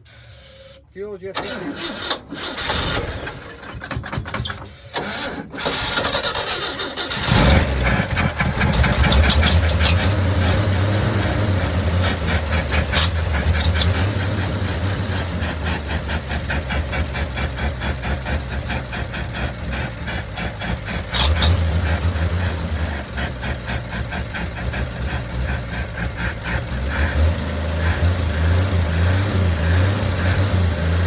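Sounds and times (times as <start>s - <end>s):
engine cranking on starter: 1.2s - 27.2s
engine running: 5.0s - 31.0s.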